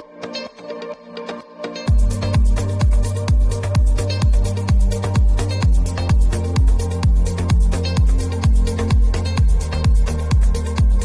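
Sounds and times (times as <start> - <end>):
kick-drum beat: 1.9 - 11.0.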